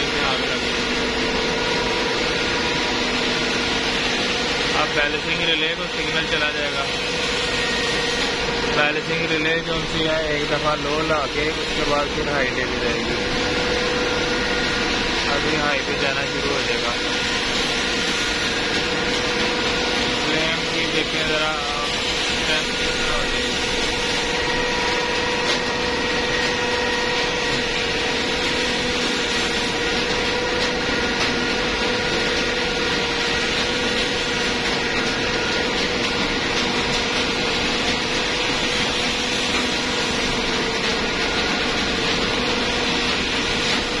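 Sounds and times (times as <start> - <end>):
blower fan hum and whine: 0.0 - 44.0.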